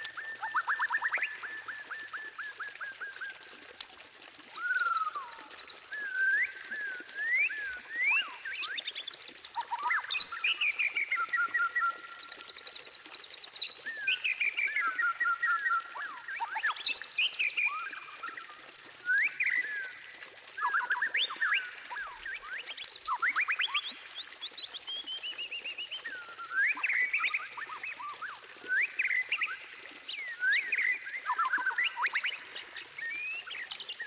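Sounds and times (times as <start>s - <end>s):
songbird whistles and trills: 0.0s - 34.0s.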